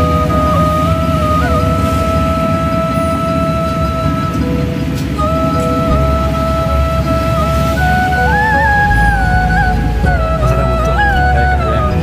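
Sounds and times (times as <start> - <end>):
background music with long held note: 0.0 - 12.0
dense low rumble: 0.0 - 12.0.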